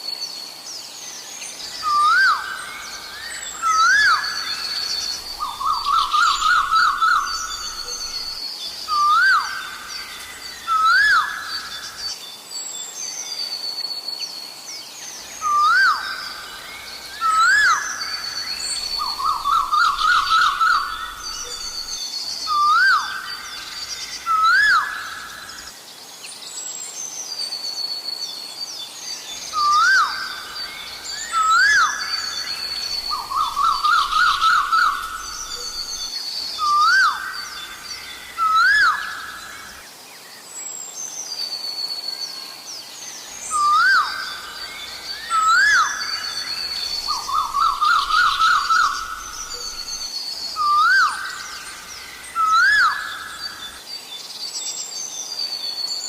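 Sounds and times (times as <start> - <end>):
small birds chirping: 0.8 - 13.4, 14.7 - 26.6, 28.6 - 42.0, 42.6 - 56.0.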